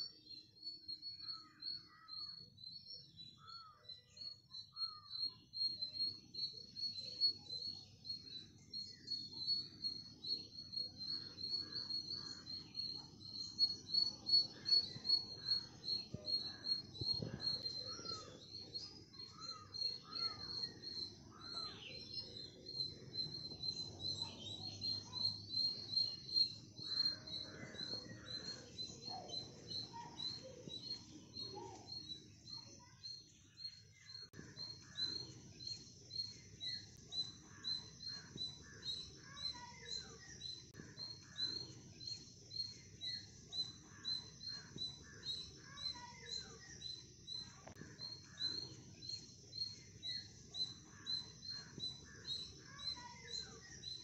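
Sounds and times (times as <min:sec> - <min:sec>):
birds calling: 0:08.3 - 0:54.0.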